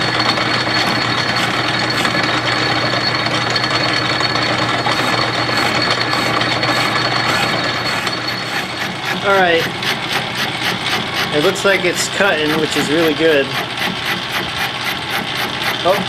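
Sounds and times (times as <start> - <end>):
high cutting whine: 0.0 - 16.0
metal lathe running: 0.0 - 16.0.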